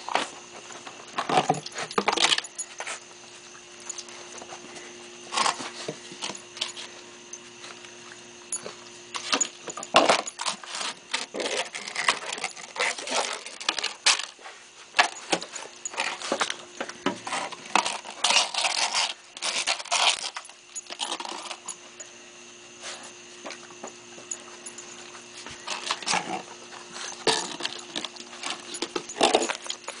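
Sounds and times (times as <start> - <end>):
puppy eating with clicks and clinks: 0.1 - 22.2, 23.4 - 30.0.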